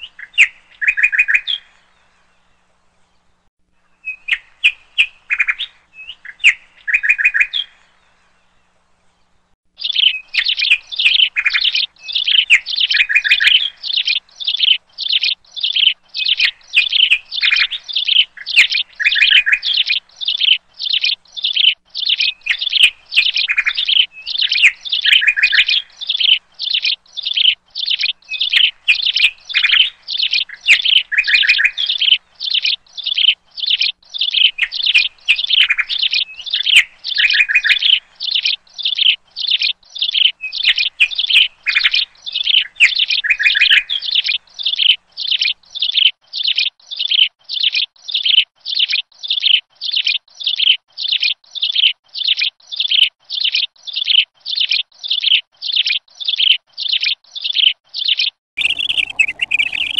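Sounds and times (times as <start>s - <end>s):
bird-like chirping: 0.0s - 2.0s, 3.9s - 8.0s, 9.8s - 59.9s.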